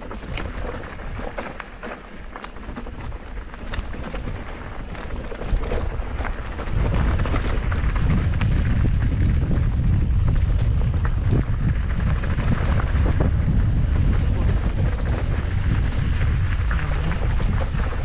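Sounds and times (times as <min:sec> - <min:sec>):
tyres rolling over dirt: 0:00.0 - 0:18.0
wind buffeting microphone: 0:00.0 - 0:18.0.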